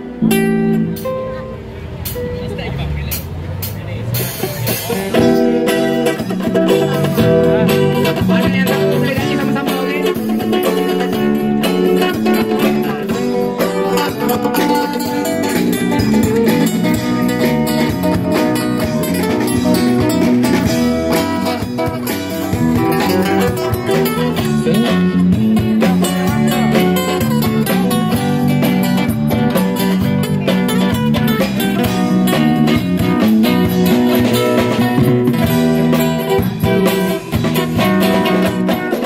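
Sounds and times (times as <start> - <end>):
bass guitar: 0.0 - 39.0
drum kit: 0.0 - 39.0
guitar: 0.0 - 39.0.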